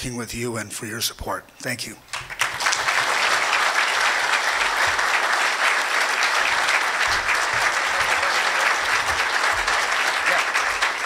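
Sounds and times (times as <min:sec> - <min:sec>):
audience applauding: 0:02.1 - 0:11.0.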